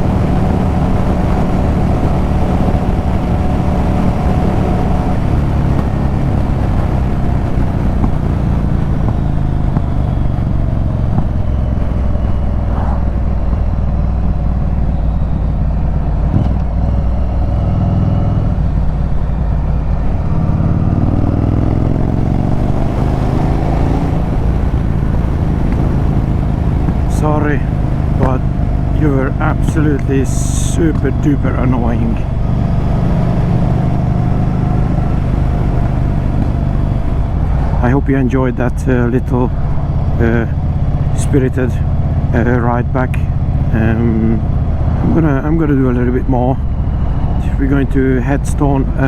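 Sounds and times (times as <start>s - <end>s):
motorcycle engine and exhaust: 0.0s - 49.0s.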